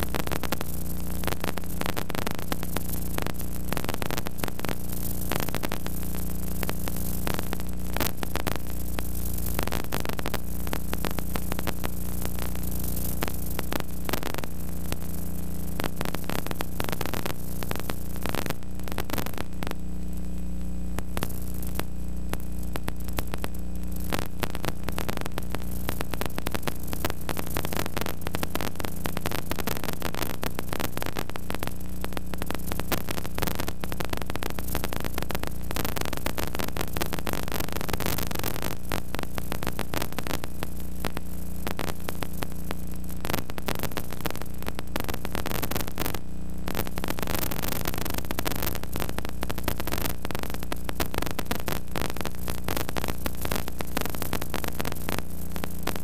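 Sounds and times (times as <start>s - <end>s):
crackling static and hiss: 0.0s - 56.0s
steady electrical hum: 0.0s - 56.0s.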